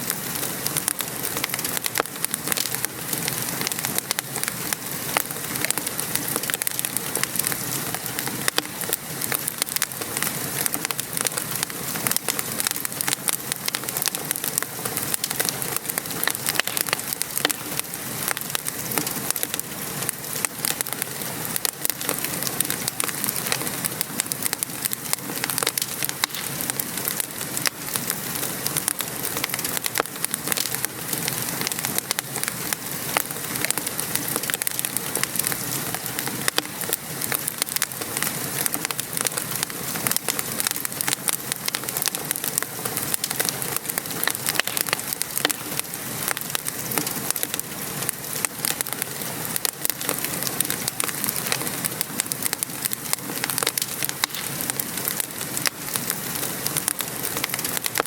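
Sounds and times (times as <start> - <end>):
rain pattering: 0.0 - 58.0
wood fire crackling: 0.0 - 58.0.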